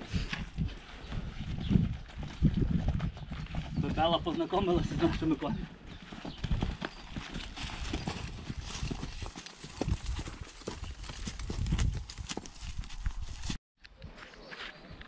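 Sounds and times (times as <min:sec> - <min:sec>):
horse hooves clip-clop on dirt: 0:00.1 - 0:13.6.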